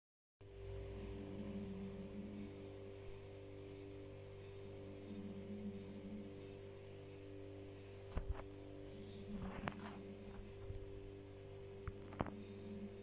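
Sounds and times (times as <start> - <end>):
low electrical hum: 0.4 - 13.0.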